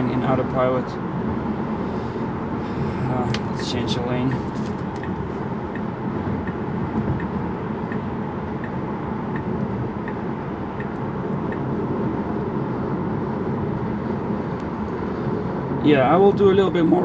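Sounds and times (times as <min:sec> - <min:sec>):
road and tyre noise in car: 0:00.0 - 0:17.0.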